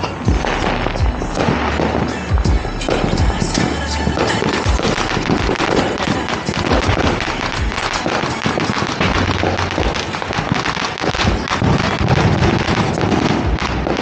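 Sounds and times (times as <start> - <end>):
firecrackers crackling: 0.0 - 14.0
fireworks booming: 0.0 - 14.0.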